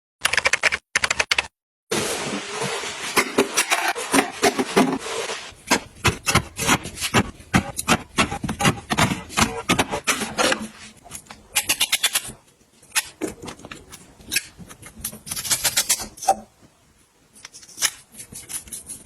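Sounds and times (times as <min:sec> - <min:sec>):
rubbing and rustling: 0:02.0 - 0:19.0.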